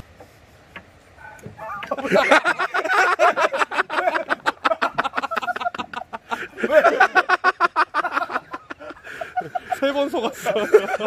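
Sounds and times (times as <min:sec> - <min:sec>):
man laughing hard: 0:01.9 - 0:11.0.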